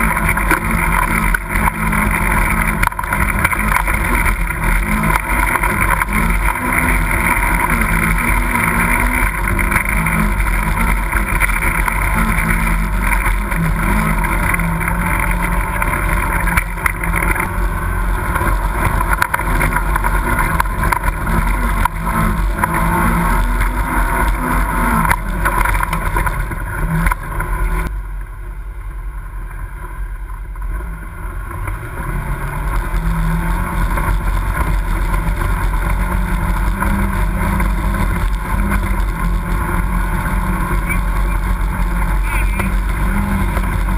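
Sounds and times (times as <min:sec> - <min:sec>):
off-road vehicle engine under load: 0:00.0 - 0:43.9.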